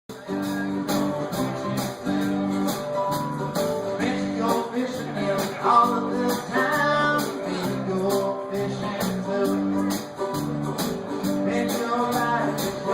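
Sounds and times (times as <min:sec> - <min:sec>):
plucked guitar: 0:00.1 - 0:12.9
walking bass line: 0:00.1 - 0:12.9.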